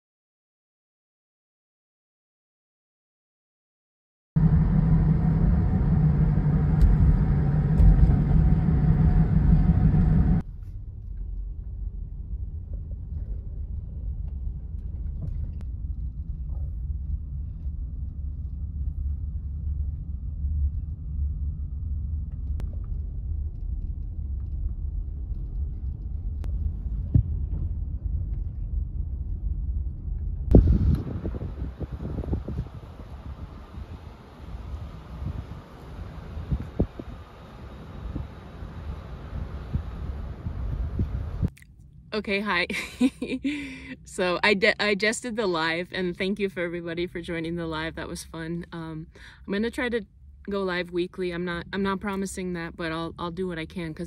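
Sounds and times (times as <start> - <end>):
car engine and road rumble: 4.4 - 54.0.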